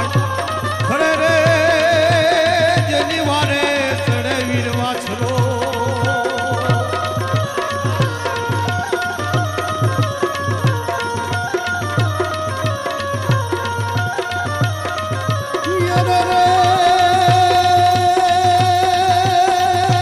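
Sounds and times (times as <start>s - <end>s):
tabla beat: 0.0s - 20.0s.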